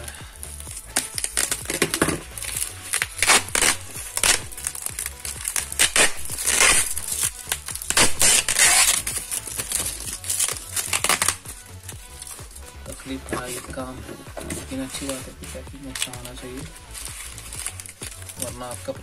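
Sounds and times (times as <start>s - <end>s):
background music: 0.0s - 19.0s
packaging crinkling: 0.1s - 19.0s.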